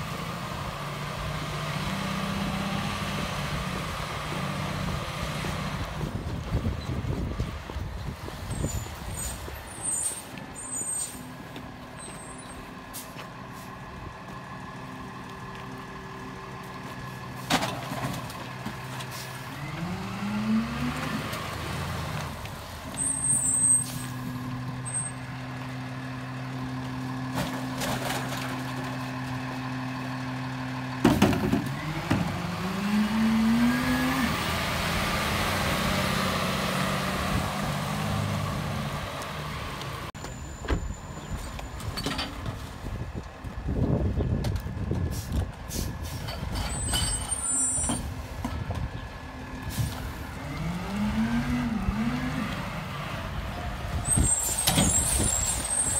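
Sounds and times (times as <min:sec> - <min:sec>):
garbage truck diesel engine: 0:00.0 - 0:55.9.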